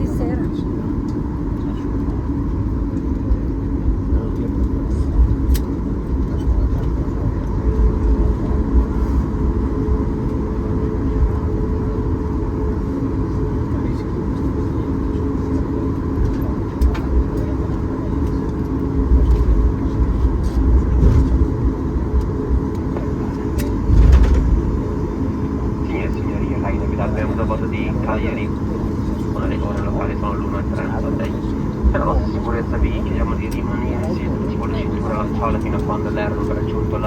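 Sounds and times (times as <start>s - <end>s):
jet engines humming: 0.0s - 37.0s.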